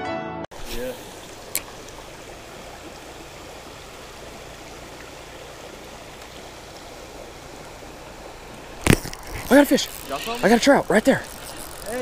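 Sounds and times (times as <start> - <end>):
creek water rushing over rocks: 0.5 - 12.0.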